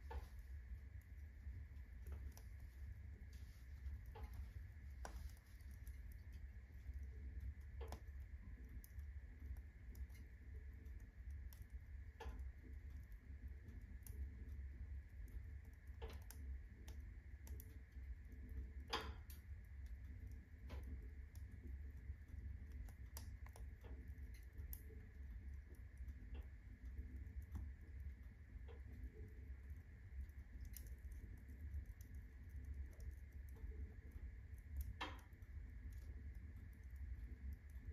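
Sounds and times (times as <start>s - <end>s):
firewood crackling and popping: 0.0s - 37.9s
steady low hum: 0.0s - 37.9s.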